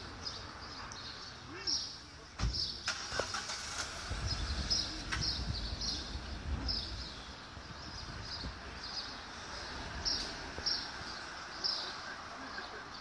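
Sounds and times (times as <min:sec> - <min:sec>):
small birds chirping: 0:00.0 - 0:03.0, 0:03.7 - 0:13.0
outdoor background noise: 0:00.0 - 0:13.0.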